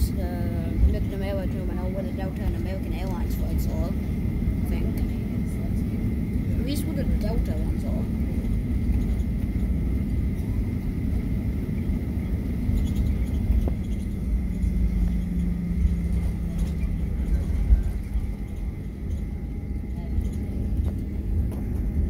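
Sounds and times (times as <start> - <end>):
airplane cabin rumble while taxiing: 0.0 - 22.0
faint high whine: 0.0 - 22.0
low hum: 0.0 - 22.0.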